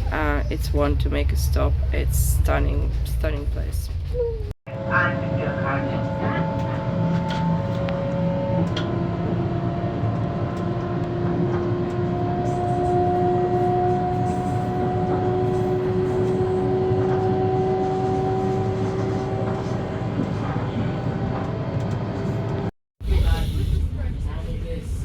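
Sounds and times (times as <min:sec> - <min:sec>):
bus engine rumble: 0:00.0 - 0:25.0
bus drive whine: 0:04.7 - 0:24.8.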